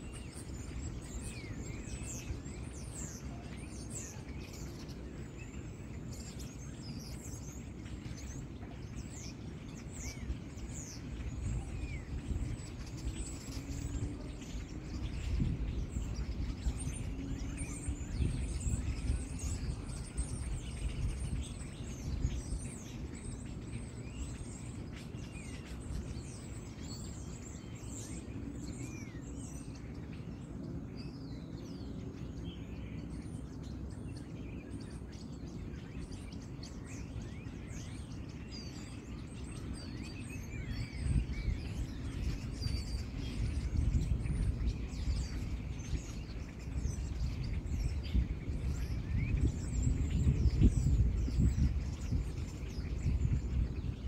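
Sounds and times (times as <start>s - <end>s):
low background rumble: 0.0s - 54.0s
songbirds chirping and twittering: 0.0s - 54.0s.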